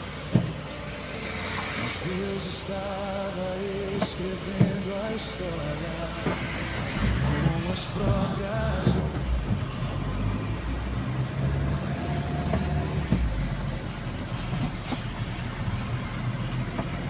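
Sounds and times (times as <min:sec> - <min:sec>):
road vehicle rumble and hiss: 0:00.0 - 0:17.0.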